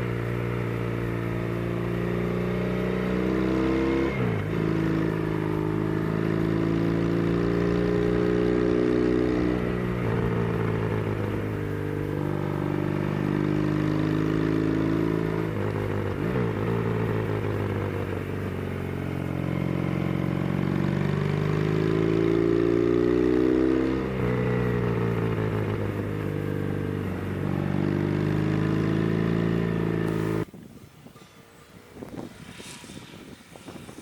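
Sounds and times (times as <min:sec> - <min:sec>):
motorcycle engine revving uphill: 0:00.0 - 0:30.5.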